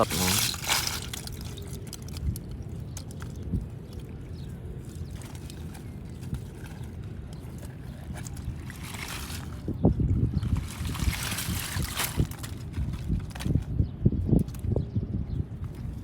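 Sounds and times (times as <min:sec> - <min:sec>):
water splashing and sloshing: 0:00.0 - 0:13.8, 0:15.5 - 0:16.0.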